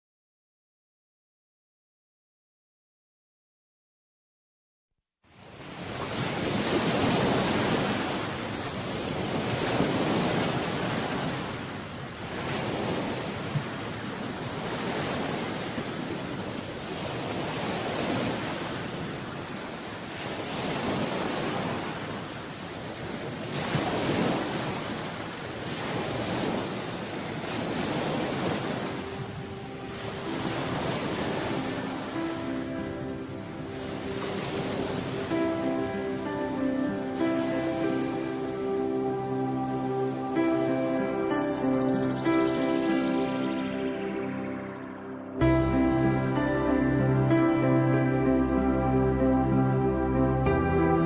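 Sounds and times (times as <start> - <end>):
ocean waves breaking: 5.3 - 51.0.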